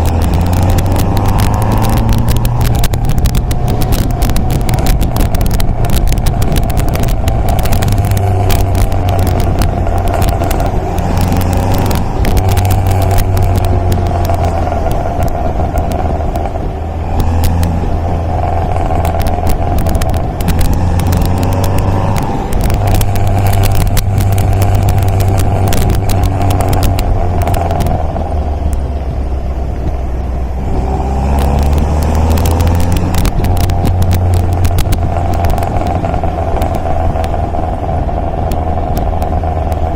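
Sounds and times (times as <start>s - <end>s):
road and wind crackle: 0.0s - 39.9s
sports car engine revving: 0.0s - 39.9s.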